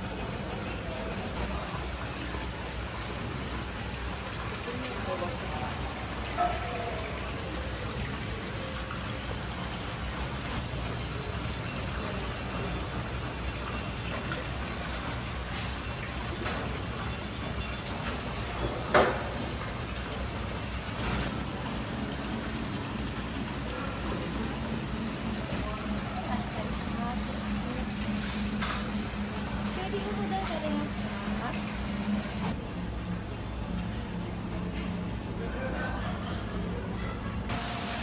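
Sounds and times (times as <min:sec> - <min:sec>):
water splashing in tanks: 0:00.0 - 0:38.0.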